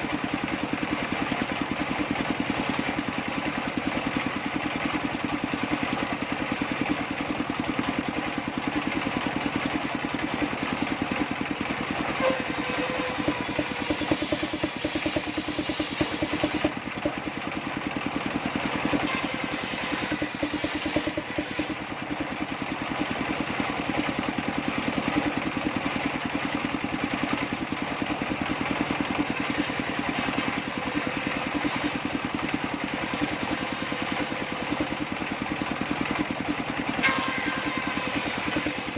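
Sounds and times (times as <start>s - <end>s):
circular saw engine running: 0.0s - 38.9s.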